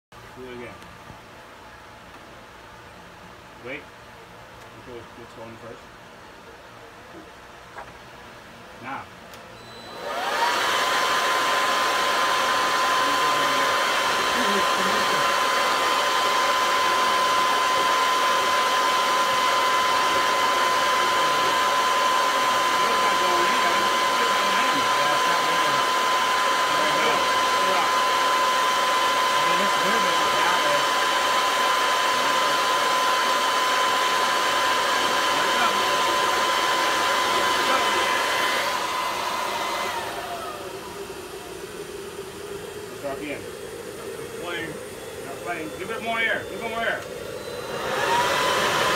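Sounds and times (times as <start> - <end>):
turbine whine: 4.6 - 48.9
leaf blower rushing air: 9.6 - 48.9.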